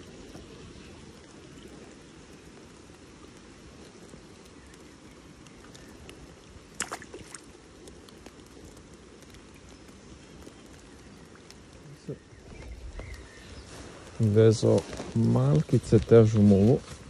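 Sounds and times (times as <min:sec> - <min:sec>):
light rain patter: 0:00.0 - 0:17.0.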